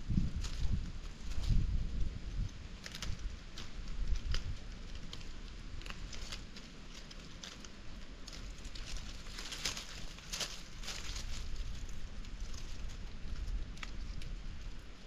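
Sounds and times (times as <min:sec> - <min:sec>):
dry leaves and twigs crackling: 0:00.0 - 0:15.0
low wind rumble: 0:00.0 - 0:15.0.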